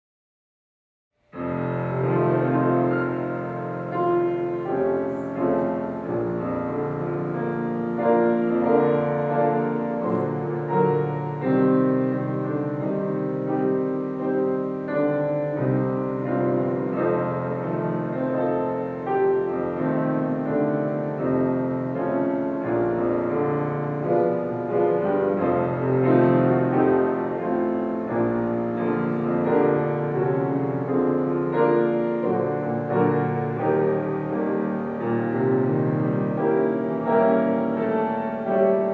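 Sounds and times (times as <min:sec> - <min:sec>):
instrumental piano music: 0:01.2 - 0:38.9.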